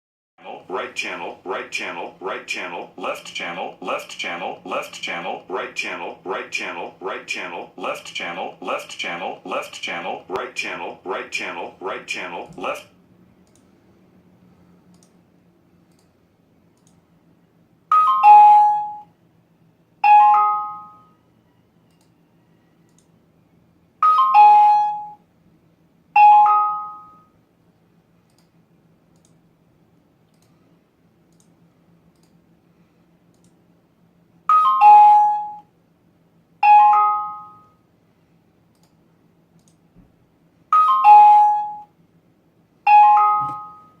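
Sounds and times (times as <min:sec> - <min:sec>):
faint low hum: 0:00.4 - 0:44.0.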